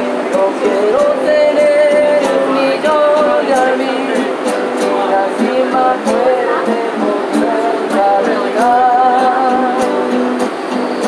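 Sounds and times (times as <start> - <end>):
man singing: 0.0 - 10.5
acoustic guitar strumming: 0.0 - 11.0.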